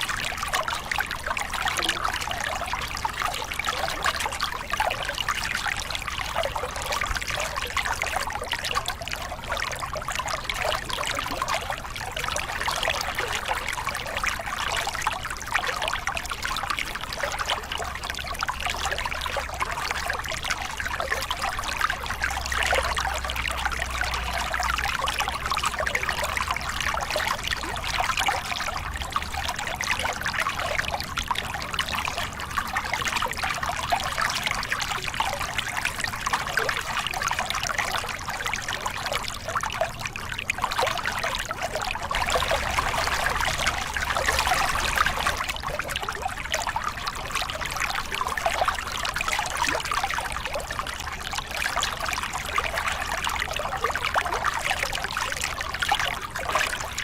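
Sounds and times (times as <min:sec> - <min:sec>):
faint low rumble: 0:00.0 - 0:53.8
water splashing over rocks: 0:00.0 - 0:57.0.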